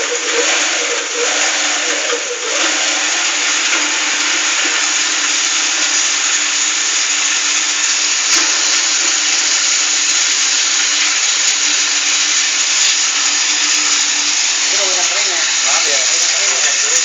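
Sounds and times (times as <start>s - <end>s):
shredder humming and grinding: 0.0s - 17.0s.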